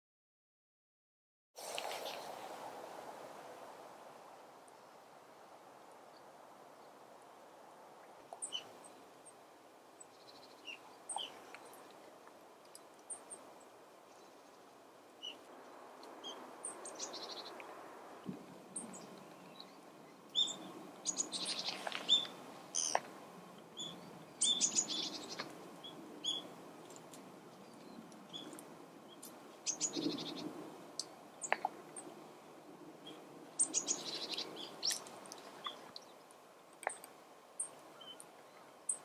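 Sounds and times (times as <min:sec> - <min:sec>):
faint background hiss: 0:01.6 - 0:39.0
songbirds chirping: 0:04.0 - 0:39.0.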